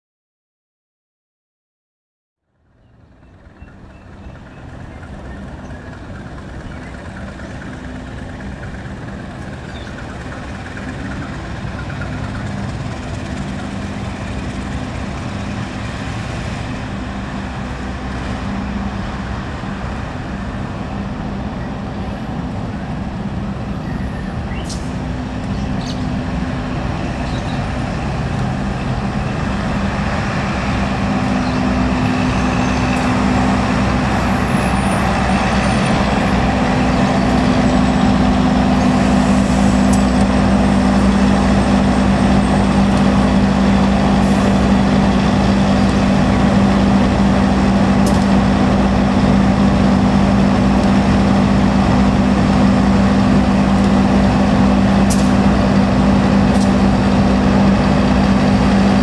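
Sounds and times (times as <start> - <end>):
locomotive engine droning: 2.4 - 59.0.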